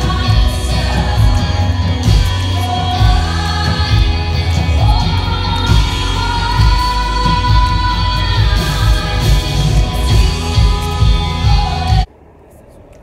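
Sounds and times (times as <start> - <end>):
worship band playing: 0.0 - 12.1.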